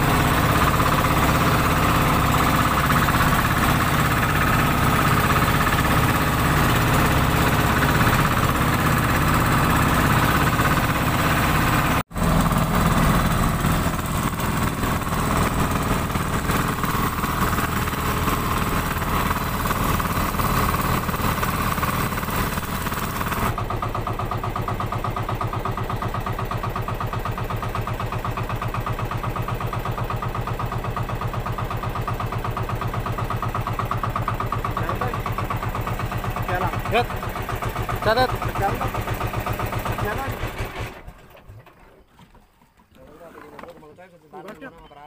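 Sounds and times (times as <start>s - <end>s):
boat engine running: 0.0s - 41.1s.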